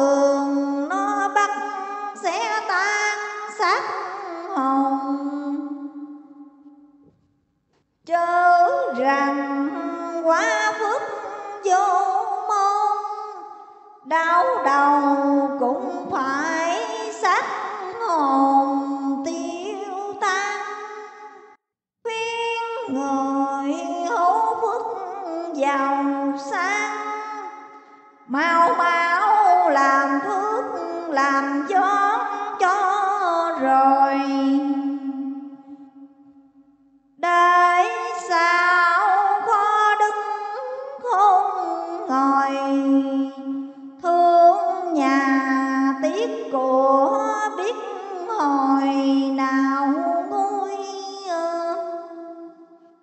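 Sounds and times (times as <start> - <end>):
woman singing in chanting style: 0.0 - 7.0, 8.1 - 53.0.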